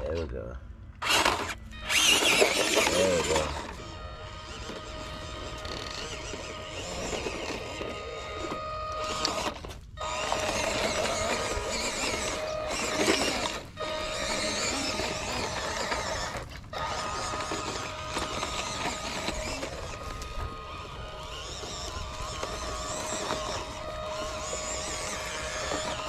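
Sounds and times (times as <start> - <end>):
small electric motor whining: 1.0 - 26.0.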